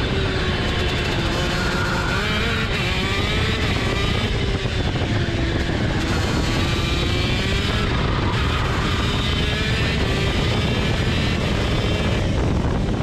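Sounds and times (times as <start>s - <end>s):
kart engine at full throttle: 0.0s - 13.0s.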